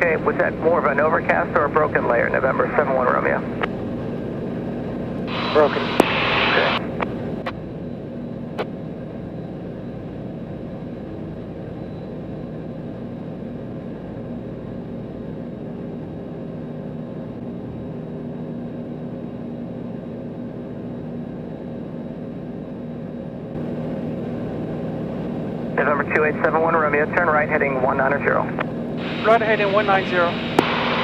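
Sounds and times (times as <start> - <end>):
airplane engine and propeller drone: 0.0 - 31.0.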